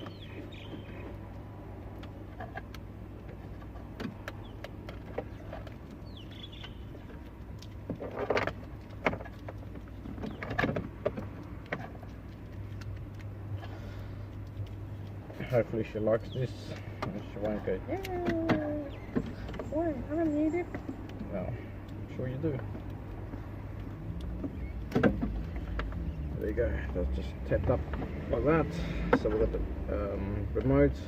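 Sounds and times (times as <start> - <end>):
clicks and rustles of wiring: 0.0 - 27.0.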